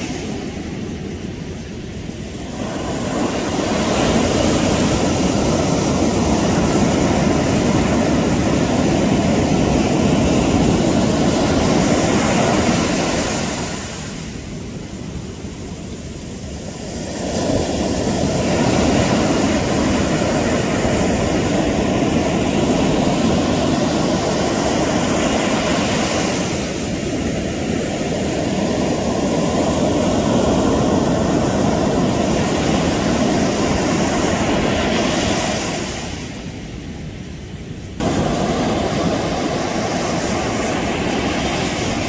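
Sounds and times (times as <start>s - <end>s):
ocean surf breaking on beach: 0.0s - 42.0s.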